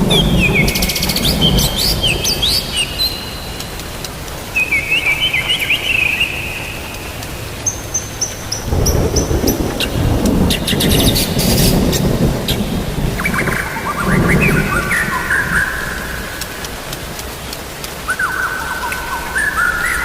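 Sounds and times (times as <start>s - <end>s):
songbird chirping and warbling: 0.0s - 3.8s, 4.4s - 16.6s, 18.0s - 20.0s
rain hissing: 0.0s - 20.0s.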